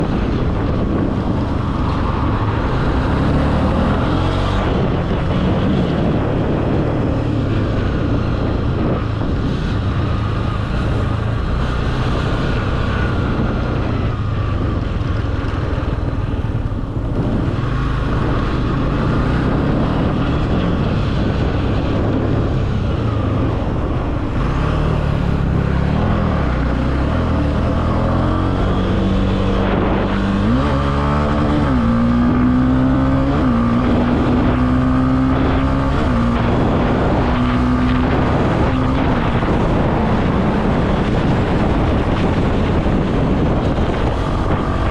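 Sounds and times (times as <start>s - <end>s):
motorcycle engine running: 0.0s - 44.9s
wind buffeting microphone: 0.0s - 44.9s.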